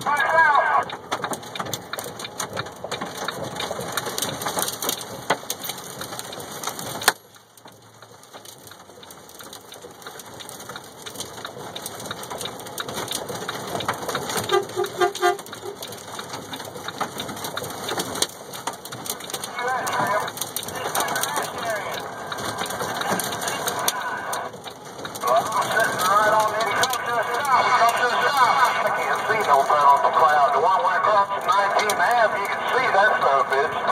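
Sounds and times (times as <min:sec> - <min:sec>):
rain pelting a windshield: 0:00.0 - 0:33.9.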